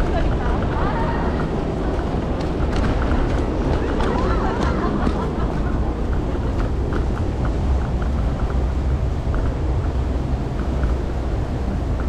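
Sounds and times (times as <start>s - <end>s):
scooter wheels rumbling: 0.0s - 12.0s
wind on microphone: 0.0s - 12.0s.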